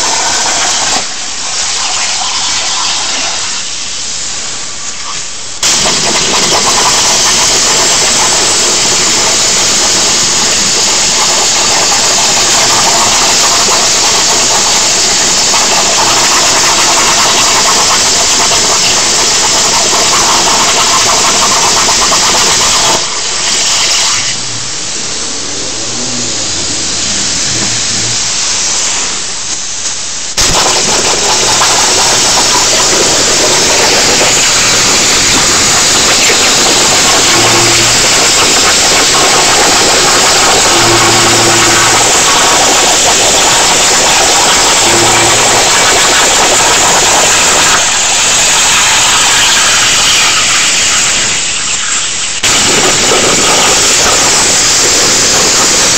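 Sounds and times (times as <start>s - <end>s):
plasma cutter hissing arc: 0.0s - 55.9s.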